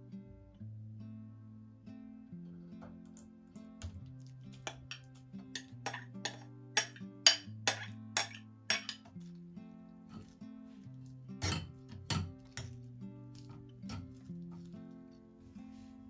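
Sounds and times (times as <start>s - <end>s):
soft acoustic guitar music: 0.0s - 16.0s.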